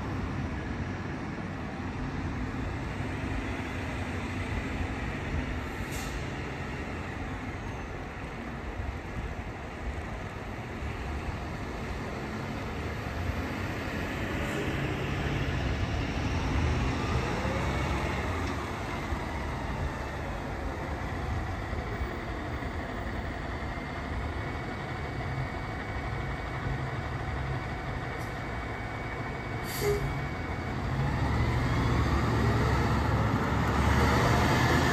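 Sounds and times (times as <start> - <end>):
fire engine rumbling: 0.0 - 34.9.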